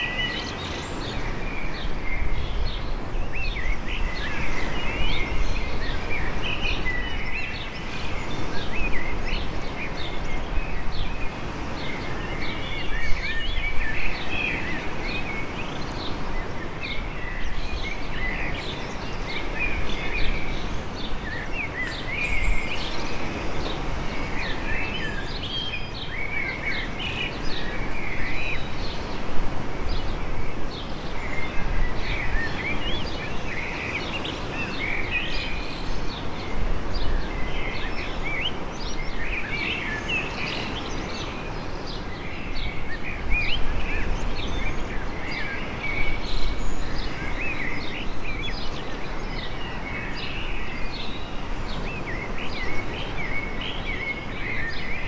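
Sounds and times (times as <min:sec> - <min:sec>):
gentle surf on beach: 0:00.0 - 0:55.0
small birds chirping: 0:00.0 - 0:55.0.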